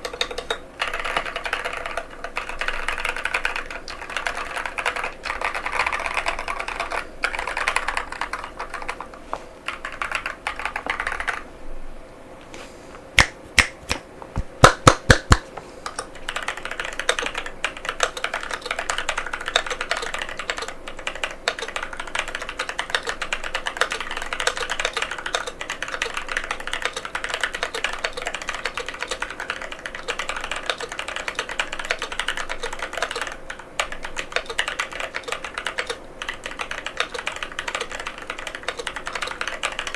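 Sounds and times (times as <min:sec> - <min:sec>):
mechanical keyboard typing: 0:00.0 - 0:11.4, 0:14.6 - 0:39.9.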